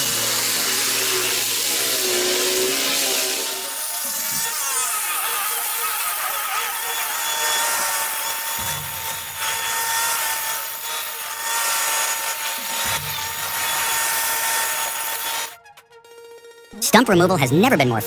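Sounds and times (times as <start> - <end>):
wood being cut grinding: 0.0 - 15.6.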